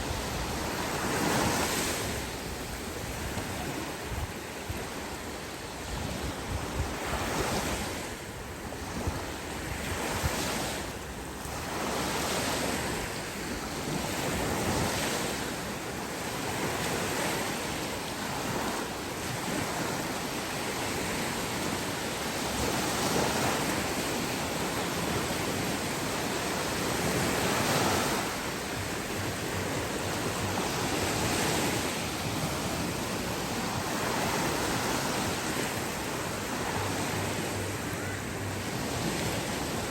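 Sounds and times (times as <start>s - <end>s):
sea waves breaking on beach: 0.0s - 39.9s
wind on microphone: 0.0s - 39.9s.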